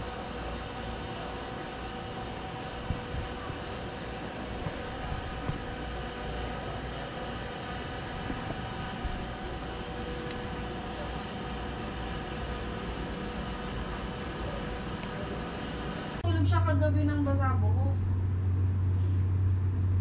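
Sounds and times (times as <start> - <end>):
machine running with low rumble: 0.0 - 20.0.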